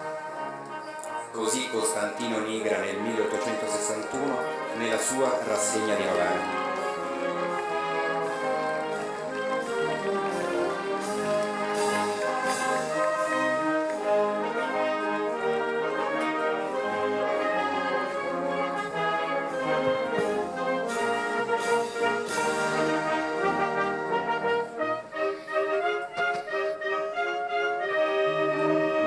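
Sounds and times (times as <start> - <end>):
brass band playing chords: 0.0 - 29.0.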